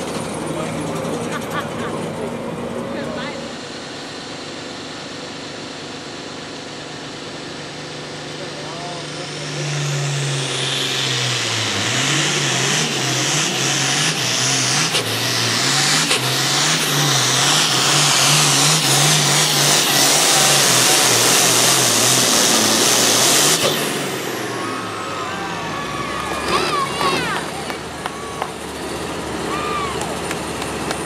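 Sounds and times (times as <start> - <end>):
tractor diesel engine under load: 0.0 - 31.0.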